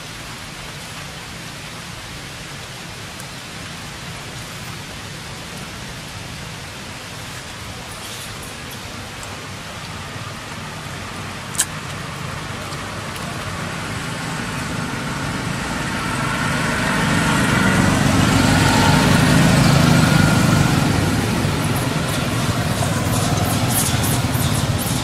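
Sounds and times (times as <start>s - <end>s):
light rain hiss: 0.0s - 25.0s
vehicle engine rumble: 0.0s - 25.0s.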